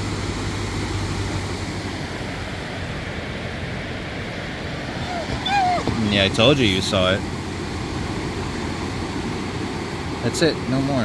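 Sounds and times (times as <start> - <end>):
ocean surf: 0.0 - 11.0
wind: 0.0 - 11.0.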